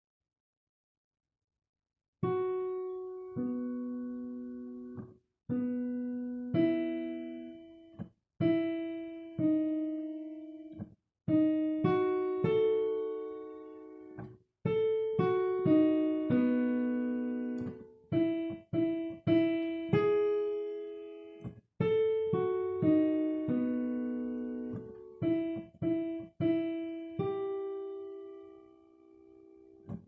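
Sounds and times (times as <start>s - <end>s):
piano intervals and chords: 2.2s - 30.0s.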